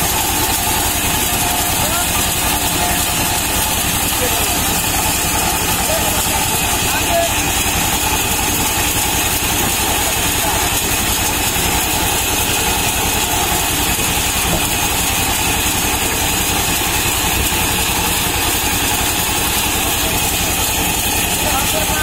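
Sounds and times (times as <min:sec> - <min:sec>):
band saw running: 0:00.0 - 0:22.0.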